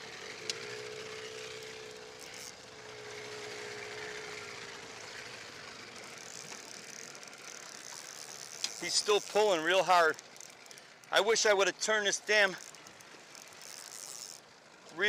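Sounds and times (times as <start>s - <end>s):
outboard motor running: 0.0s - 15.0s
choppy water: 1.7s - 15.0s.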